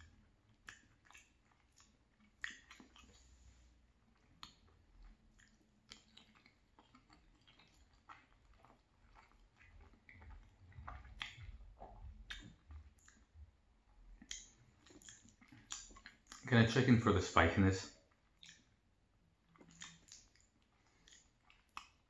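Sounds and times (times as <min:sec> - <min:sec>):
wet chewing with mouth clicks: 0:00.0 - 0:22.0.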